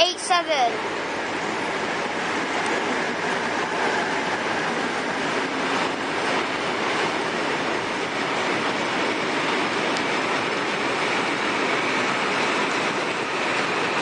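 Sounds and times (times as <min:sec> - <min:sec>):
freight train passing: 0:00.0 - 0:14.0.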